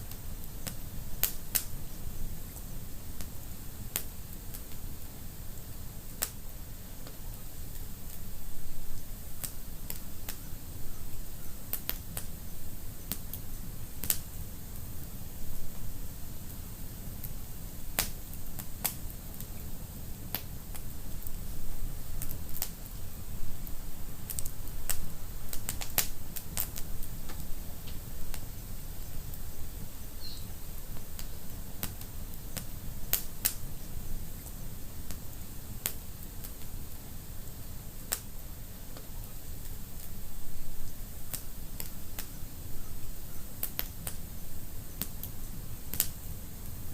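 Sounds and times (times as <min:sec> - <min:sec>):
wood fire crackling in fireplace: 0:00.0 - 0:46.9.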